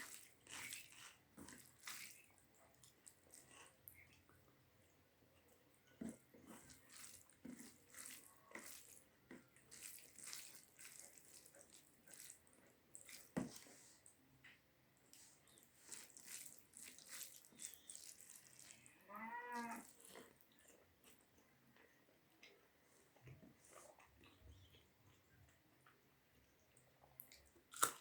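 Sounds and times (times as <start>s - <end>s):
chewing and wet mouth sounds: 0.0s - 14.2s, 15.0s - 28.0s.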